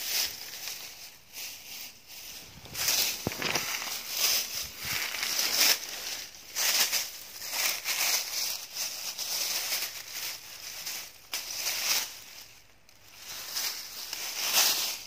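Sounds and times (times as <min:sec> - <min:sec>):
dry grass and leaves rustling: 0:00.0 - 0:15.0.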